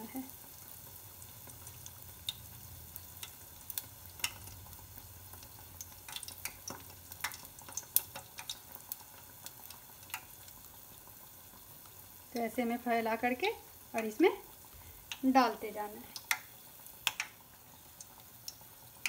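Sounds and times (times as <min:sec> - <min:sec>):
food sizzling in oil: 0:00.0 - 0:19.0
oil crackling and popping: 0:00.0 - 0:19.0.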